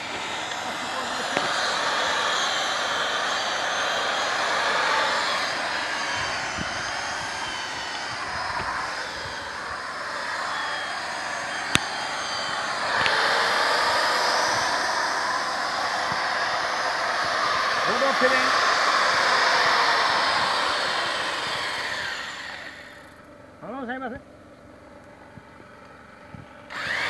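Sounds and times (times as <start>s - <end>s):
motorized sprayer hissing and whining: 0.0s - 24.0s, 24.6s - 27.0s.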